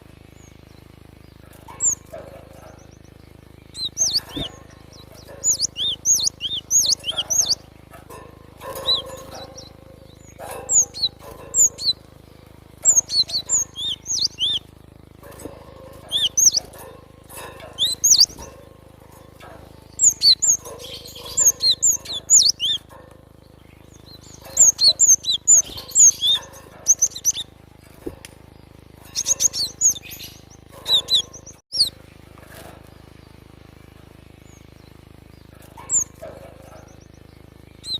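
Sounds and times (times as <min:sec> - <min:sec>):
bird chirping high-pitched: 0:00.0 - 0:32.0, 0:34.4 - 0:37.9.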